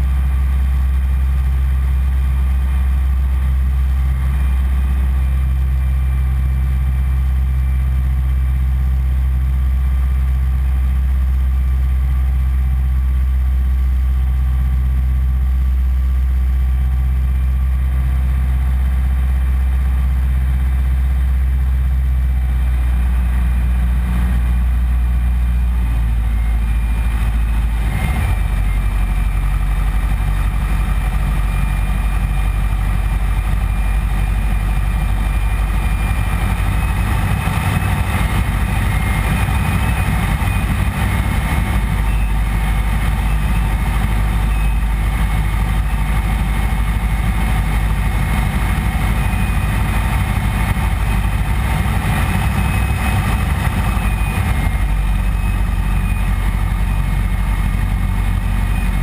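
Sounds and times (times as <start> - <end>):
small plane engine and propeller: 0.0 - 59.0.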